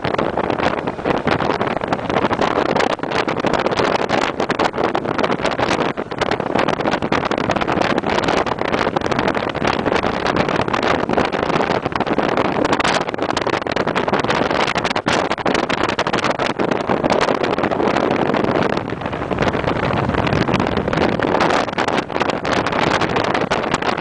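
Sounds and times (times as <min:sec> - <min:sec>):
moving vehicle noise: 0:00.0 - 0:24.0
wind buffeting microphone: 0:00.0 - 0:24.0.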